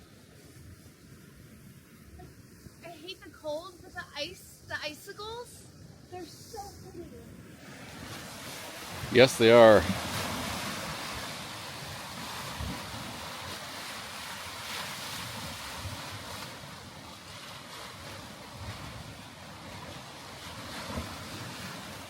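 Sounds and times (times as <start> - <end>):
waves washing on shore: 0.0 - 22.0
wind buffeting microphone: 0.4 - 22.0.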